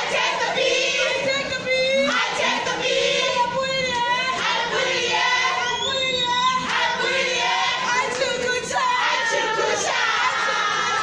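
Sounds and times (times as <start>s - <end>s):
group singing chorus: 0.0s - 11.0s.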